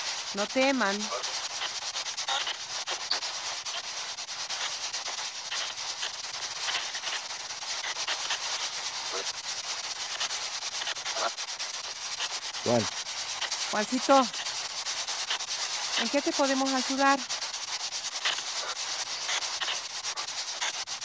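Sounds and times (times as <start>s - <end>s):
chopped radio static: 0.0s - 21.0s.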